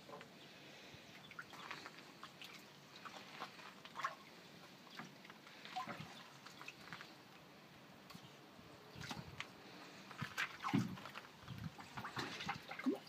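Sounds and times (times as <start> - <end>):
small water splashes: 1.1 - 7.2, 8.0 - 13.0.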